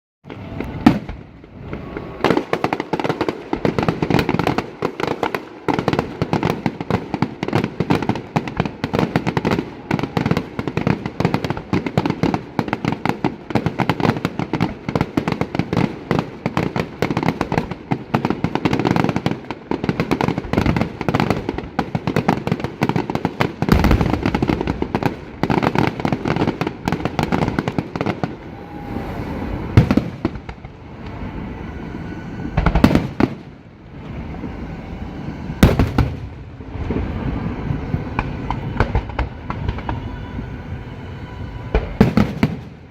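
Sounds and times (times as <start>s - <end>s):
deep fireworks boom: 0.2s - 15.8s, 18.6s - 34.6s, 35.2s - 42.9s
fireworks bangs and crackling: 0.2s - 42.9s.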